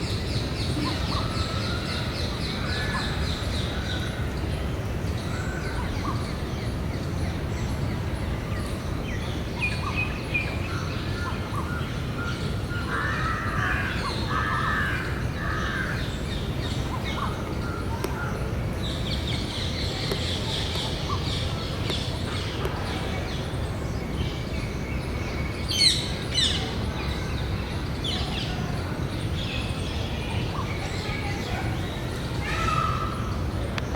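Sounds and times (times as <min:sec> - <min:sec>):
birds calling: 0:00.0 - 0:33.9.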